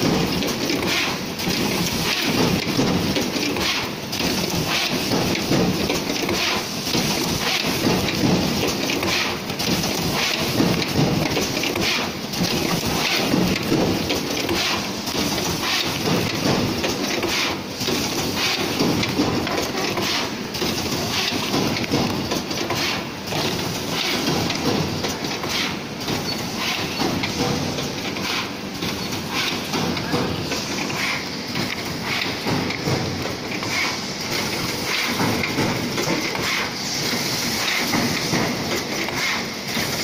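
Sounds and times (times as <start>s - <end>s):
binding machine clatter: 0.0s - 40.0s.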